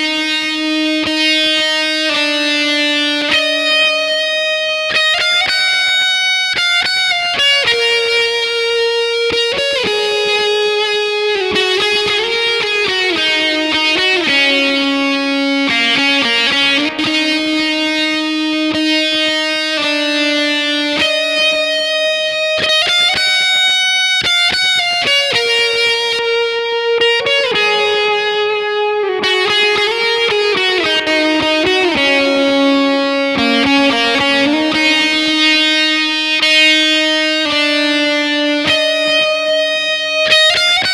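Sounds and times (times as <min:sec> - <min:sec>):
fuzz electric guitar lead: 0:00.0 - 0:40.9.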